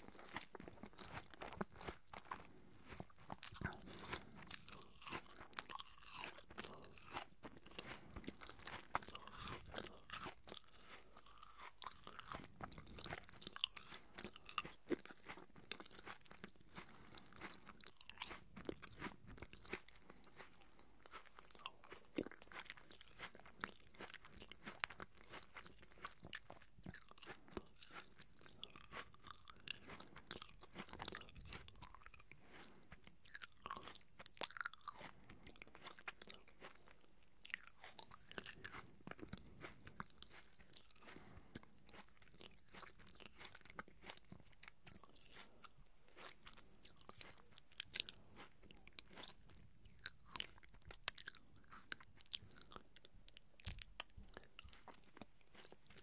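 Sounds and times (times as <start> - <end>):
crunchy apple chewing: 0.0 - 56.0.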